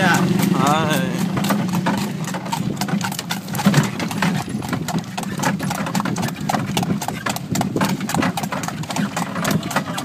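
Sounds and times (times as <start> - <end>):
horse hooves clip-clopping on pavement: 0.0 - 10.0.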